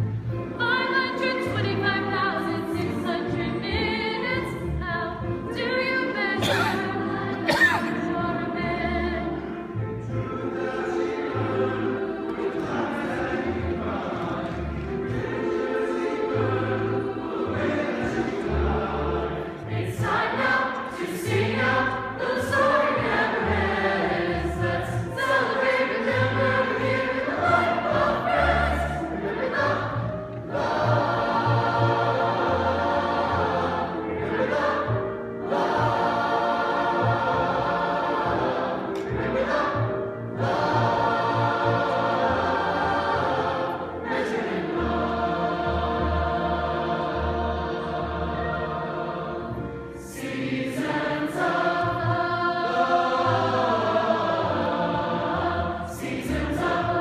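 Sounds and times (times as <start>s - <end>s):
youth choir singing: 0.7s - 9.5s, 10.1s - 57.0s.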